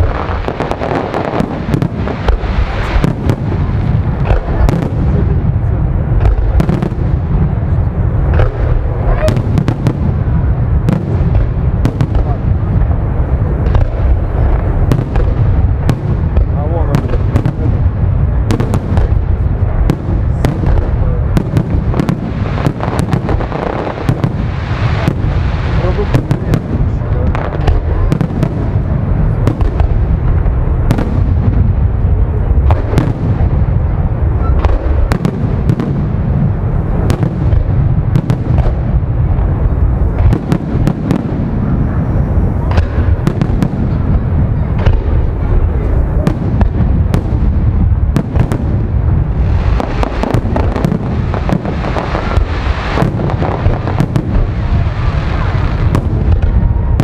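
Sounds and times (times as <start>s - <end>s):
constant low rumble: 0.0s - 57.0s.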